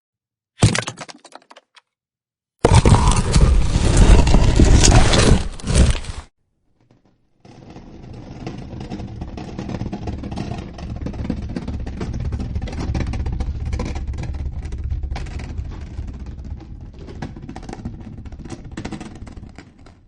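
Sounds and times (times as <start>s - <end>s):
rock grinding and rolling: 2.7s - 20.0s.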